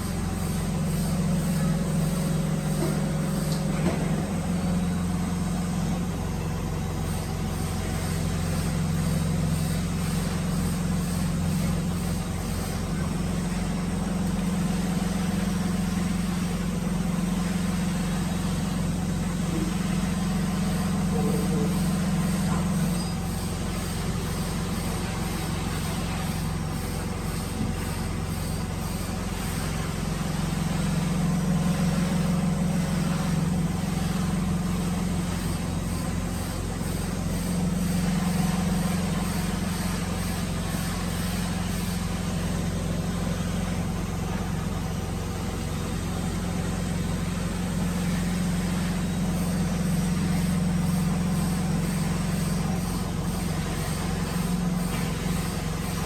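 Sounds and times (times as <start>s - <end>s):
woodworking machine humming: 0.0s - 56.0s.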